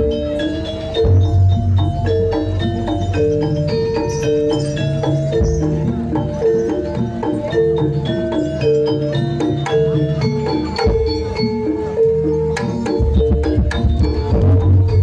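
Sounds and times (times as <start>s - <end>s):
gamelan metal percussion: 0.0s - 15.0s.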